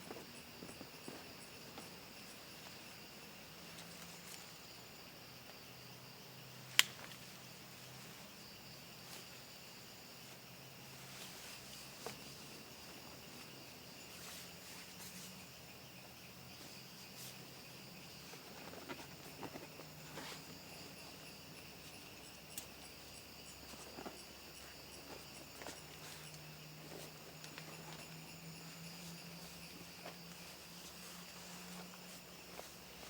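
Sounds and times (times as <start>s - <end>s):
crickets and insects trilling: 0.0s - 33.0s.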